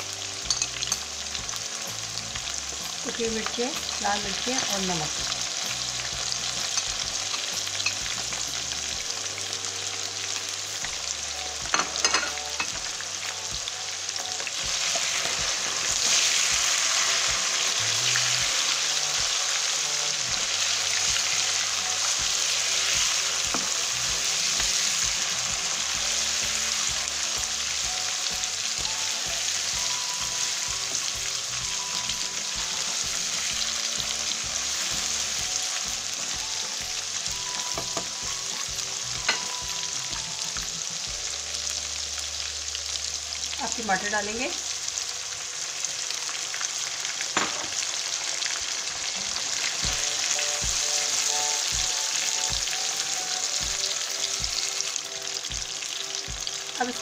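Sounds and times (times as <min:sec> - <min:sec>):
chicken sizzling in hot oil: 0:00.0 - 0:57.0.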